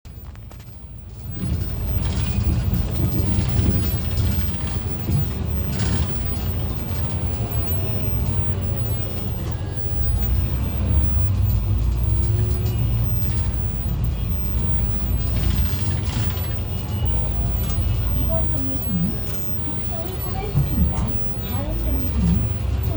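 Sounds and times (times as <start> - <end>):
bus engine and road rumble: 0.1 - 22.9.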